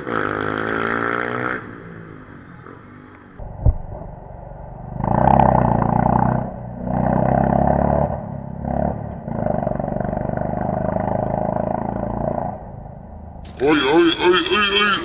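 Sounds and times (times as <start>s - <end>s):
motorcycle engine revving: 0.0s - 3.4s, 4.2s - 14.1s.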